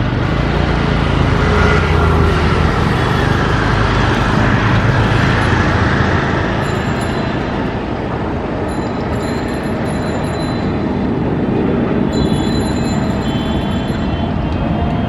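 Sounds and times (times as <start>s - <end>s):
jet airliner engine roar: 0.0s - 15.0s.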